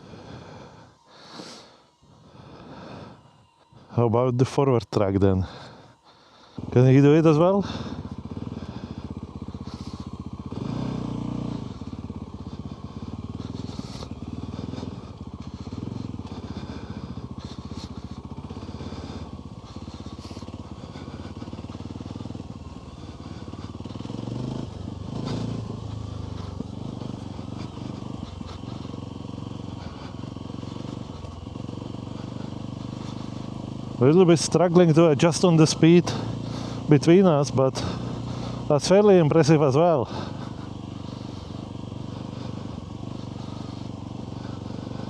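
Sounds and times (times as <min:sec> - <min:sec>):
off-road motorbike engine: 0:00.0 - 0:45.0.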